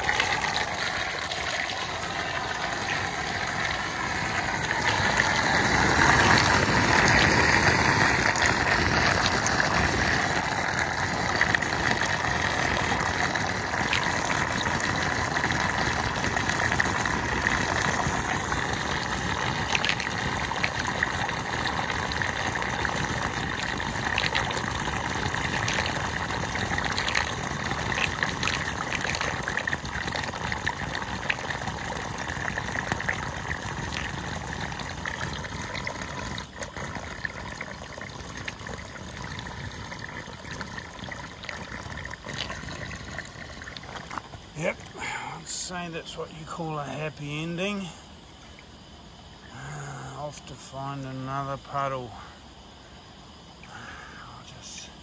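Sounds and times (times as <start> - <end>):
small water pops: 0.0 - 45.0
water gurgling down a drain: 0.0 - 54.9.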